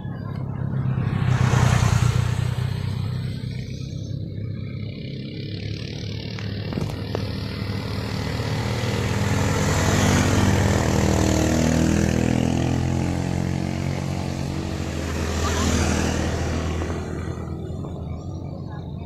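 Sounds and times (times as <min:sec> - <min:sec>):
motorbikes passing: 0:00.0 - 0:19.0.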